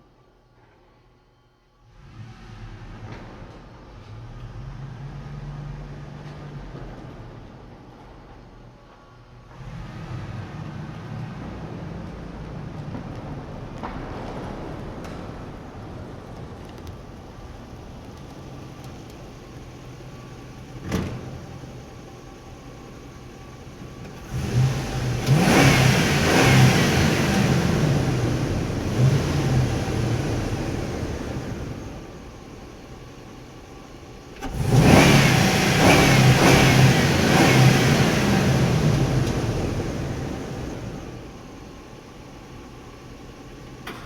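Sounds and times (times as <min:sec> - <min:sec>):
truck engine revving: 0:01.9 - 0:08.3, 0:09.4 - 0:32.5, 0:34.3 - 0:41.7.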